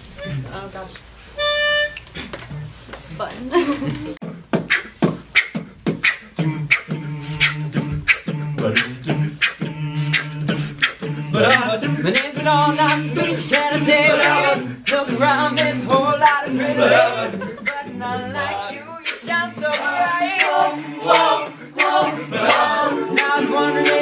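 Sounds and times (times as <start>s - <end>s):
beatboxing: 0.2s - 0.6s, 1.4s - 2.8s, 3.9s - 24.0s.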